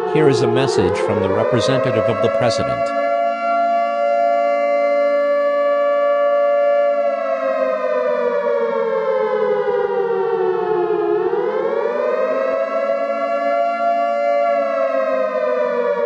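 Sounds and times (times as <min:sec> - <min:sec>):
civil defense siren wailing: 0:00.0 - 0:16.0.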